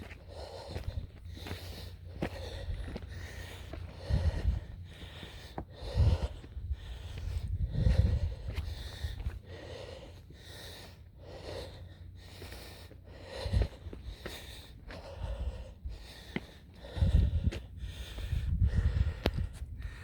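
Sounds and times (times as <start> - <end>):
person breathing hard: 0.0 - 20.0.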